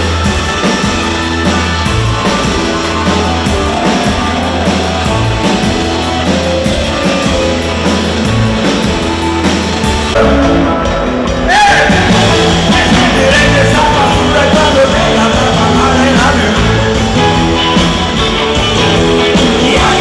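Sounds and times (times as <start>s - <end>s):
drum kit beat: 0.0s - 20.0s
electric guitar: 0.0s - 20.0s
pulsing bass line: 0.0s - 20.0s.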